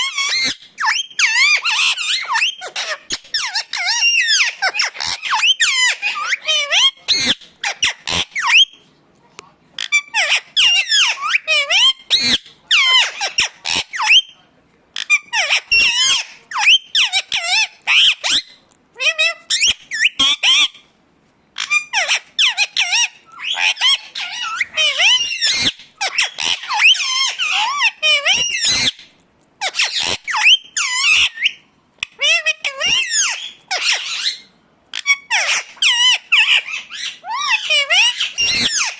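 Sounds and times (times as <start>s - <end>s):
parakeet chattering and chirping: 0.0s - 8.9s, 9.8s - 14.4s, 15.0s - 20.9s, 21.6s - 38.9s.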